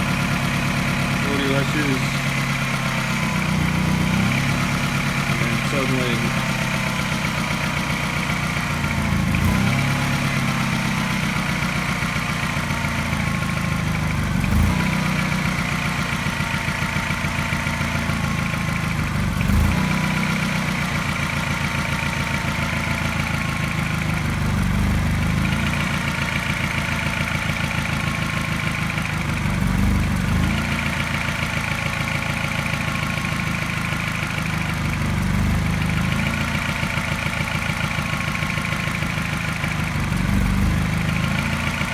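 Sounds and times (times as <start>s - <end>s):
car engine idling with misfire: 0.0s - 41.9s.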